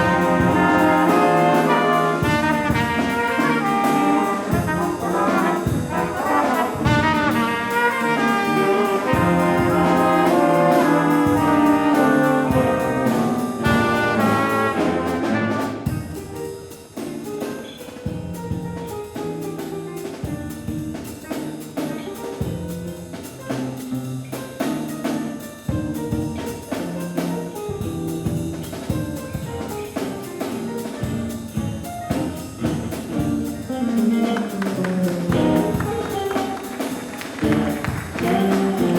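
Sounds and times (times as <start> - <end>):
jazz band with brass: 0.0 - 38.9.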